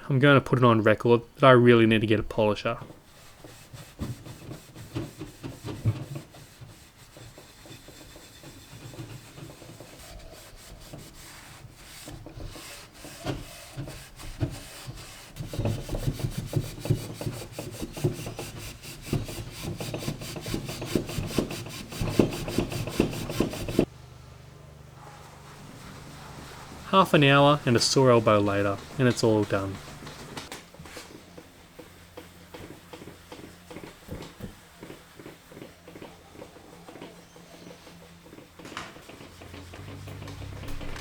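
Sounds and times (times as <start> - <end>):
hand rubbing wooden tabletop: 2.8 - 23.9, 25.0 - 41.0.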